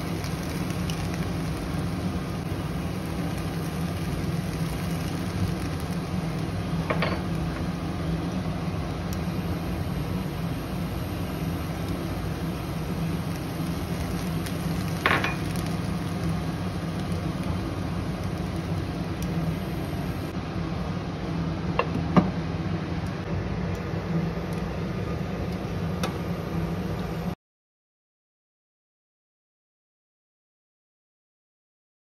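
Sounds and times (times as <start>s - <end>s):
induction cooktop hum and hiss: 0.0s - 27.4s.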